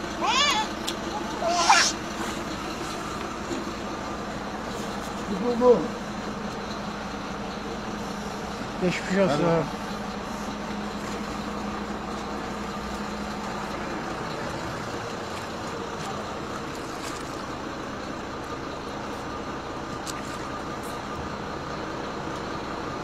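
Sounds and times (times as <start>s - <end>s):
street noise: 0.0s - 23.0s
vehicle engine idling: 0.0s - 23.0s.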